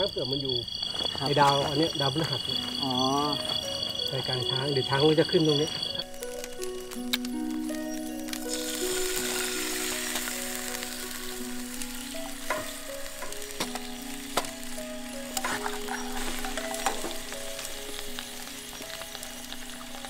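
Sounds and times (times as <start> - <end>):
soft background music: 0.0 - 20.0
crackles and pops: 0.1 - 20.0
oil sizzling in a pan: 1.3 - 20.0.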